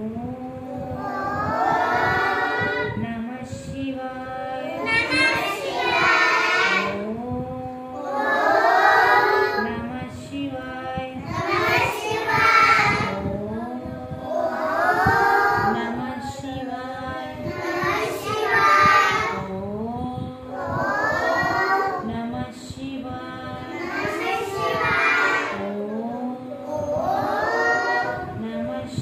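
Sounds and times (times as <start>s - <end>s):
children singing in unison: 0.0s - 3.0s, 4.4s - 7.2s, 7.9s - 19.6s, 20.4s - 22.1s, 23.4s - 28.4s.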